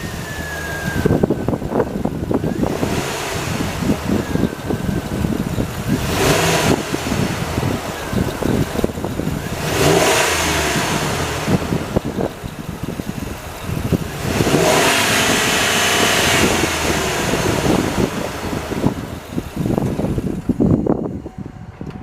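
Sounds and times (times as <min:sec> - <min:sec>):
pickup engine revving from idle: 0:00.0 - 0:21.4.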